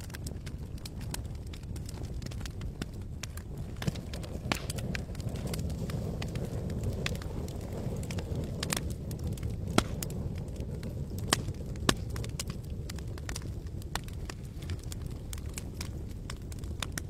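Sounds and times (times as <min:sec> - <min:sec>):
burning wood popping: 0:00.0 - 0:17.0
campfire crackling: 0:00.0 - 0:17.0
low rumble: 0:00.1 - 0:17.0.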